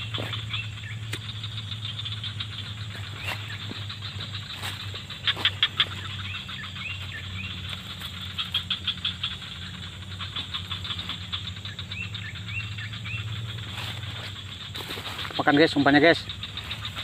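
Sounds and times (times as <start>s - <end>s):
bird call rising and falling: 0.0s - 17.0s
high insect buzz: 0.0s - 17.0s.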